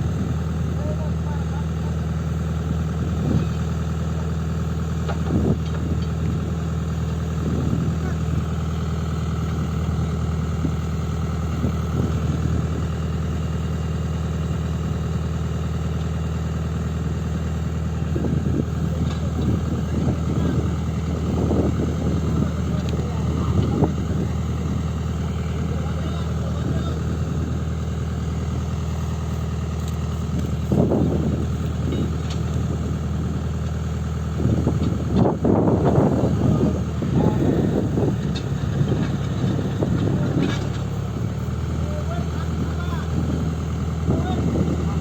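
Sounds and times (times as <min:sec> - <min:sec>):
excavator diesel engine idling: 0:00.0 - 0:45.0.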